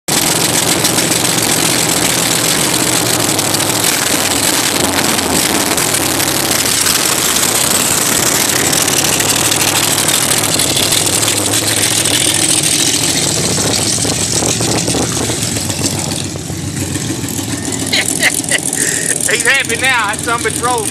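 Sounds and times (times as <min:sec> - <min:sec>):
race car engine running loud: 0:00.1 - 0:20.9.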